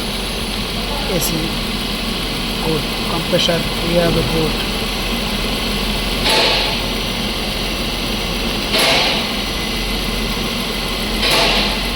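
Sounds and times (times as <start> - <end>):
car engine idling: 0.0 - 11.4
air conditioning hum: 0.0 - 11.9.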